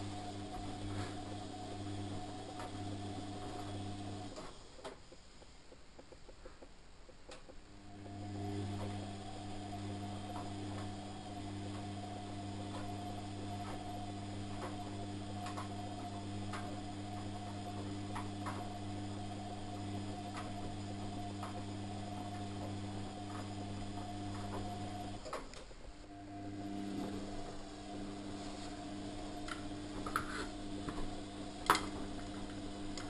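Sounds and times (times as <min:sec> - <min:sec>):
washing machine drum humming: 0:00.0 - 0:33.0.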